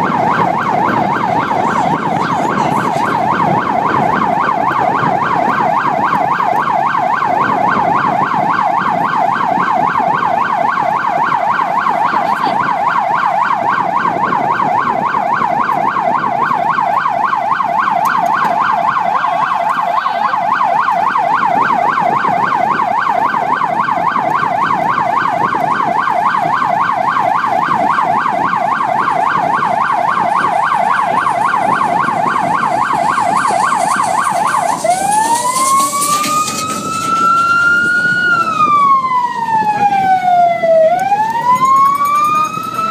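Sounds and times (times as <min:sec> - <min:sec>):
road and engine noise: 0:00.0 - 0:42.9
siren yelping: 0:00.0 - 0:42.9.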